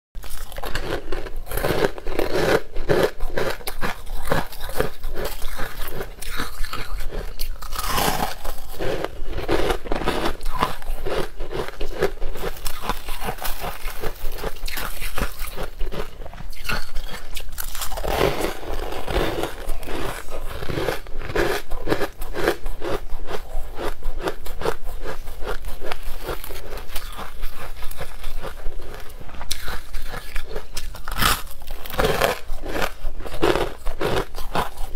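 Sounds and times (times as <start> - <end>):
crunchy shaved ice chewing: 0.2 - 34.9.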